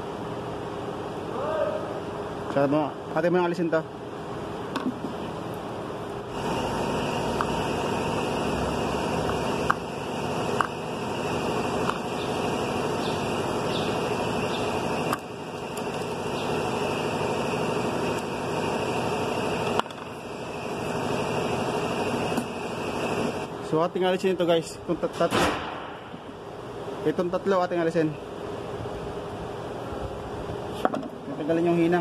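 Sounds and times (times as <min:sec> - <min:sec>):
mechanical hum and hiss: 0:00.0 - 0:32.0.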